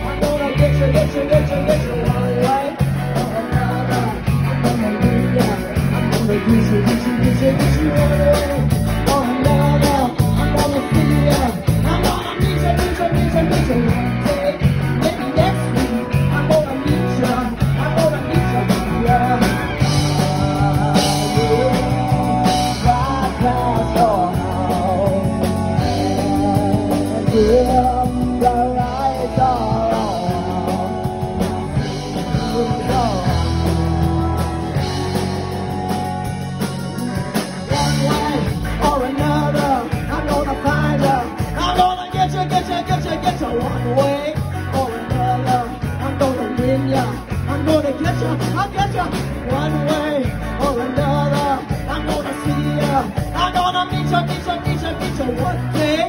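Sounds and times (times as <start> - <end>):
drums: 0.0 - 56.0
electric guitar: 0.0 - 56.0
person singing: 0.0 - 56.0.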